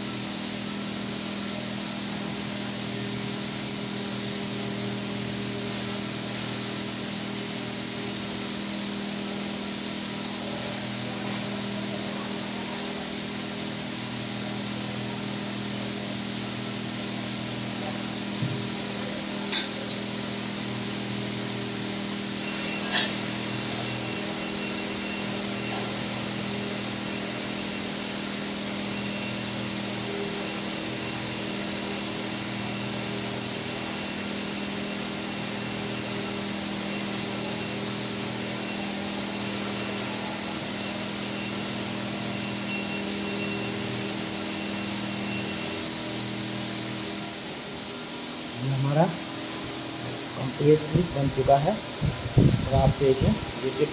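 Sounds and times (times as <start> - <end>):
furnace blower humming: 0.0 - 53.9.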